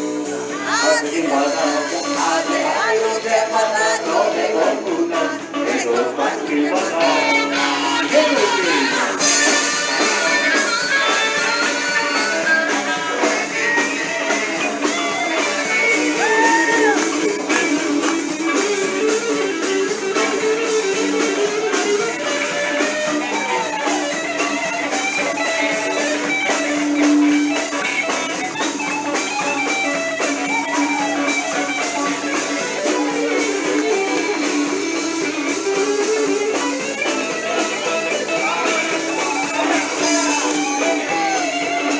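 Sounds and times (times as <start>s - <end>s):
blues-rock band playing: 0.0s - 41.9s
drums: 0.0s - 41.9s
lead guitar bending notes: 0.0s - 41.9s.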